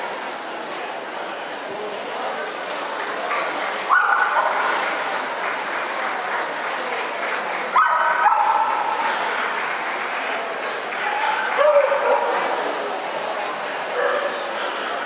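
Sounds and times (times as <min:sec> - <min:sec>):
crowd noise in large hall: 0:00.0 - 0:15.0
people clapping: 0:02.0 - 0:15.0.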